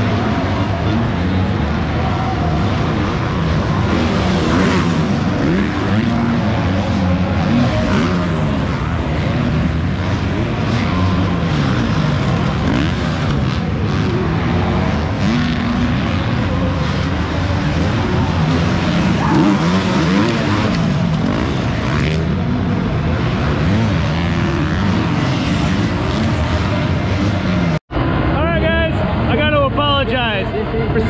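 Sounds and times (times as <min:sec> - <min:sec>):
motocross bikes revving: 0:00.0 - 0:29.9.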